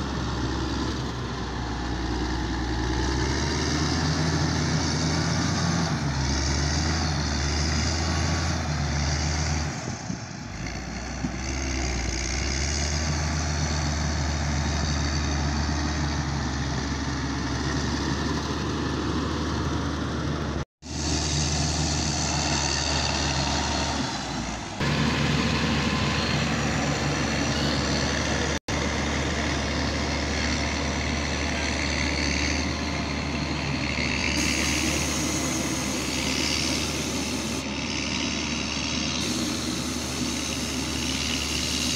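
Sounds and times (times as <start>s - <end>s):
diesel engine running steadily: 0.0s - 41.9s.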